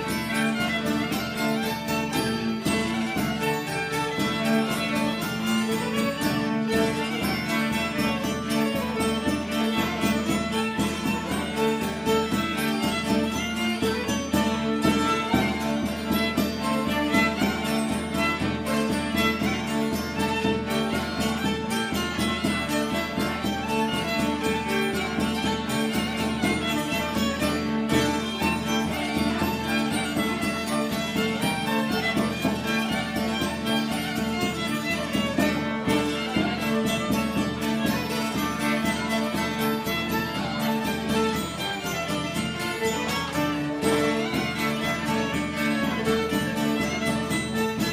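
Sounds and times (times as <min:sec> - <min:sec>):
violin-led instrumental music: 0:00.0 - 0:47.9.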